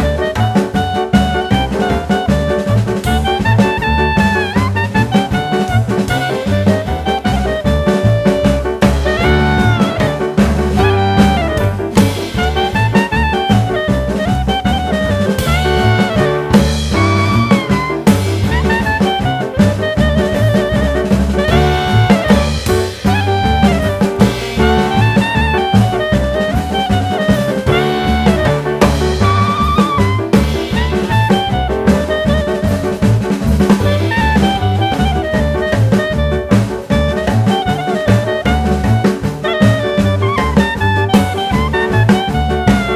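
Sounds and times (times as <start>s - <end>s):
jazzy background music: 0.0s - 42.9s.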